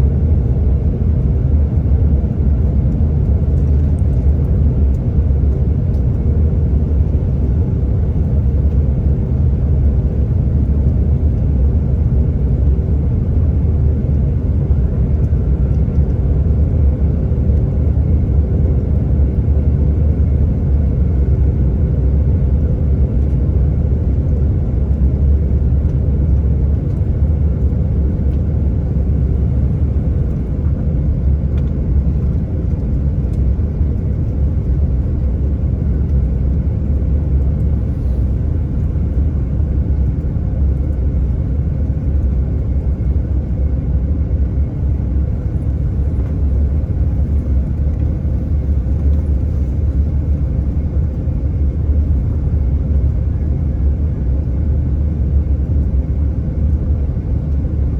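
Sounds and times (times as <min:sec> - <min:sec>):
airliner cabin engine rumble: 0:00.0 - 0:57.9.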